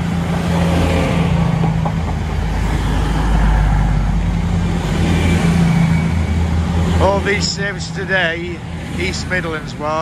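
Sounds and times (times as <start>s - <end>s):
diesel train passing: 0.0s - 10.0s.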